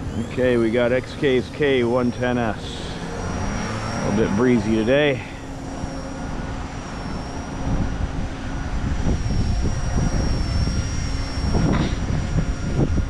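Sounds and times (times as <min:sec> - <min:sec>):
rc helicopter rotor whine: 0:00.0 - 0:13.0
wind rumbling on microphone: 0:00.0 - 0:13.0.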